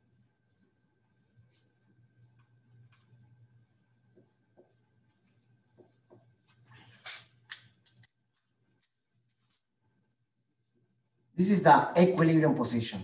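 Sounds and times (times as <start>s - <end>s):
marker squeaking on whiteboard: 0.0s - 11.2s
faint room hum: 0.0s - 13.0s.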